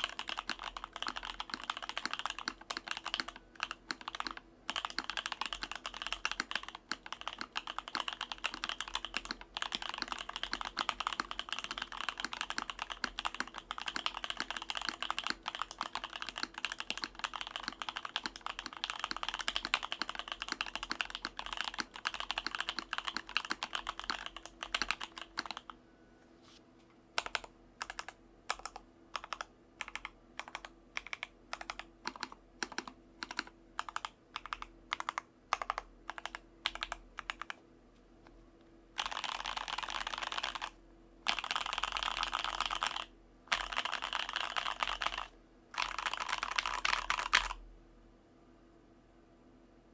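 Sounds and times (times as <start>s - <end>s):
mechanical keyboard typing: 0.0s - 25.8s, 27.2s - 37.6s, 39.0s - 47.6s.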